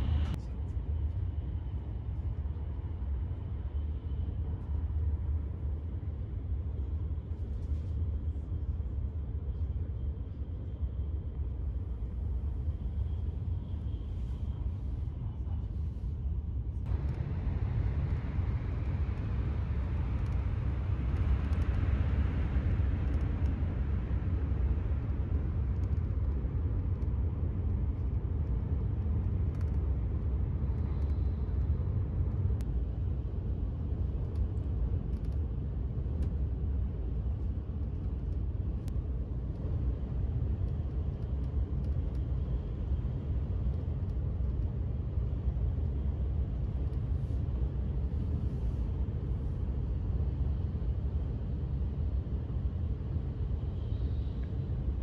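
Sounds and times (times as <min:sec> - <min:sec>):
train rumble inside cabin: 0:00.0 - 0:55.0.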